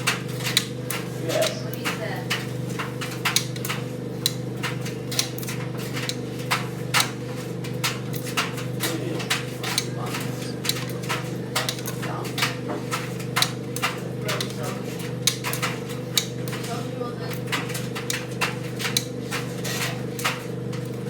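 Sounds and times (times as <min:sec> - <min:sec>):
dryer knocks and clicks: 0:00.0 - 0:21.0
tumble dryer motor hum: 0:00.0 - 0:21.0.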